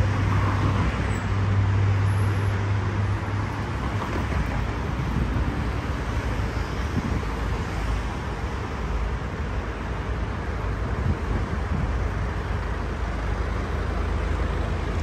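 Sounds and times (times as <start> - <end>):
highway traffic: 0.0 - 15.0.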